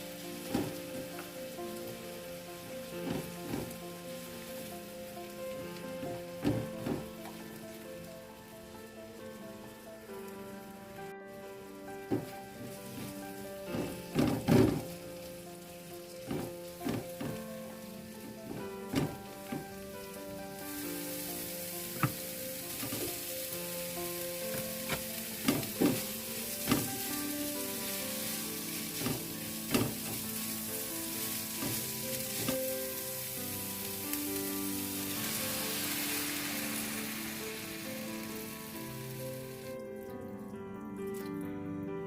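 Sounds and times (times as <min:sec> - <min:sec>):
food sizzling in a pan: 0:00.0 - 0:39.8.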